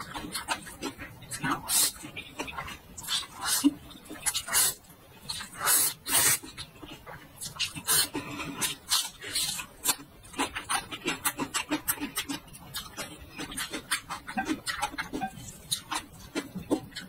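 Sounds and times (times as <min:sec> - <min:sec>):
wet chewing with mouth clicks: 0:00.0 - 0:17.0.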